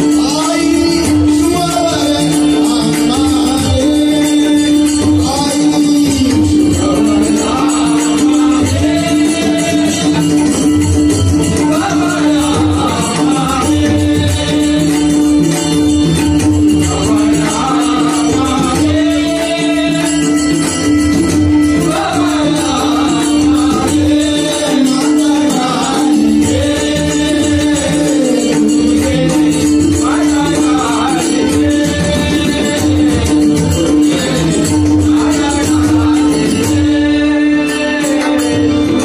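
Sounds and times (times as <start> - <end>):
devotional singing: 0.0 - 39.0
harmonium held note: 0.0 - 39.0
jingling percussion: 0.0 - 39.0
drum beat: 0.7 - 37.1.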